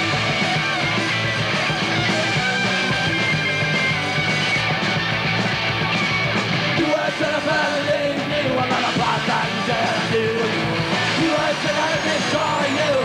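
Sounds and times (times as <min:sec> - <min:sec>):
punk rock band playing: 0:00.0 - 0:13.0.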